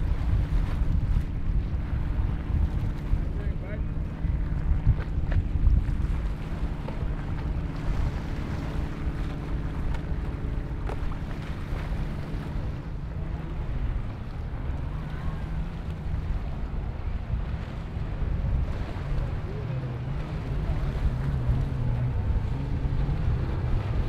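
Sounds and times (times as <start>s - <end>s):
motorboat engines droning: 0.0s - 24.0s
wind buffeting microphone: 0.0s - 24.0s.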